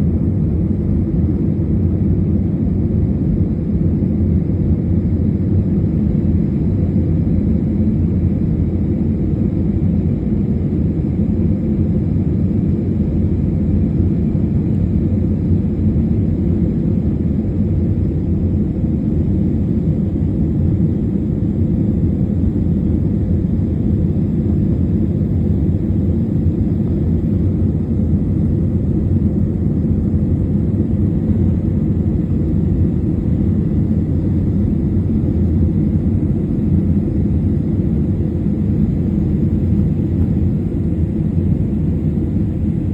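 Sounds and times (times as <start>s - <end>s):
airliner engine rumble in cabin: 0.0s - 42.9s
faint steady whine: 0.0s - 42.9s.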